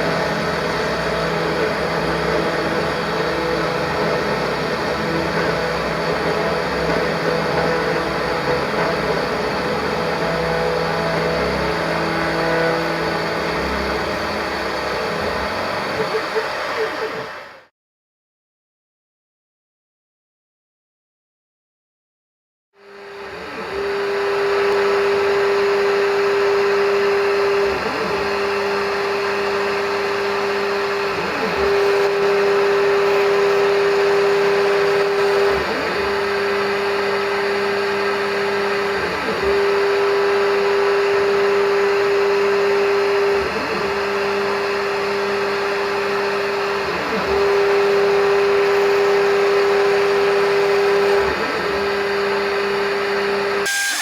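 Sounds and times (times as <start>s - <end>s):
machine tool motor humming: 0.0s - 17.6s, 22.9s - 54.0s.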